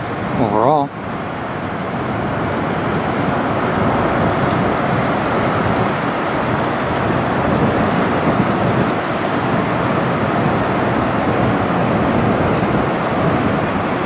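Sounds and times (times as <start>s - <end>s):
ship passing with water rushing: 0.0s - 14.0s
wind on microphone: 0.0s - 14.0s.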